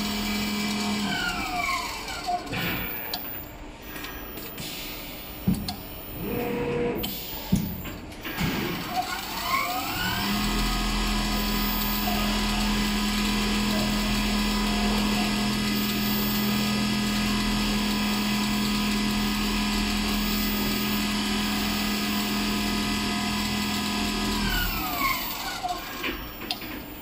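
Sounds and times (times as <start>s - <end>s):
sewing machine hum and whine: 0.0s - 4.5s, 5.1s - 27.0s.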